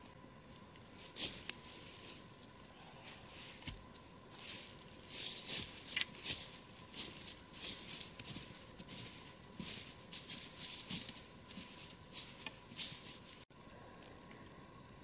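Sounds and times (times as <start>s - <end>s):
footsteps crunching through dry leaves: 0.9s - 3.8s, 4.4s - 13.5s.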